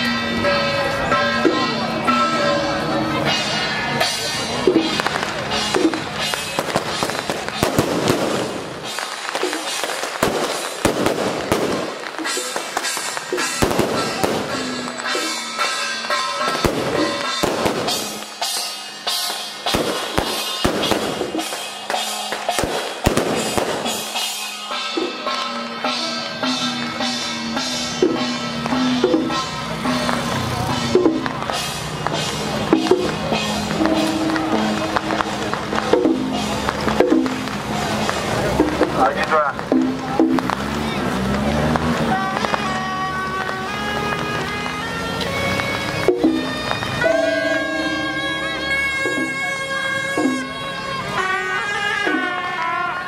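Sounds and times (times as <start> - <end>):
music playing: 0.0 - 53.0
firecrackers popping: 4.0 - 53.0.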